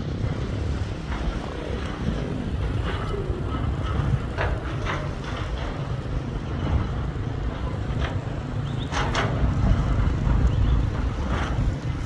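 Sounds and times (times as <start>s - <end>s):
motorcycles rumbling: 0.0s - 12.0s.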